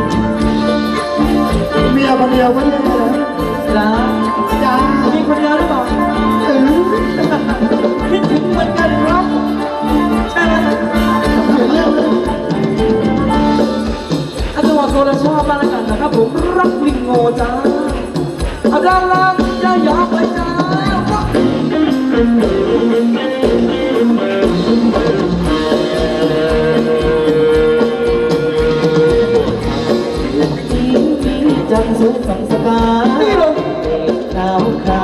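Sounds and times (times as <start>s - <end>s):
live band music: 0.0s - 35.0s.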